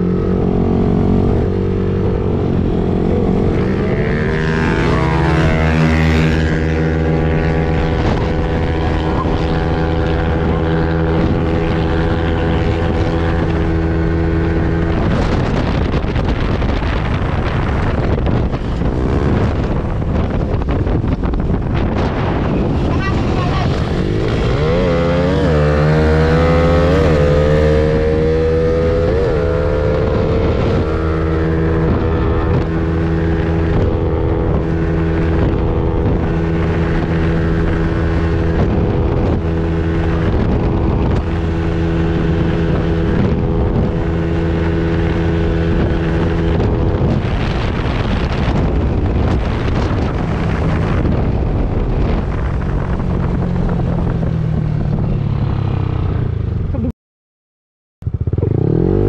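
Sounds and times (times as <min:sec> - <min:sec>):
scooter engine running: 0:00.0 - 0:54.0
wind on microphone: 0:00.0 - 0:56.9.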